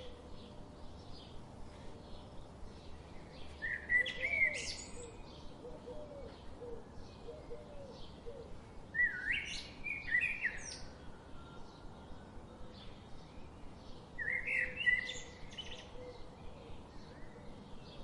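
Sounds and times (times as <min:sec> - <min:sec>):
birds singing bright phrases: 0:00.0 - 0:18.0.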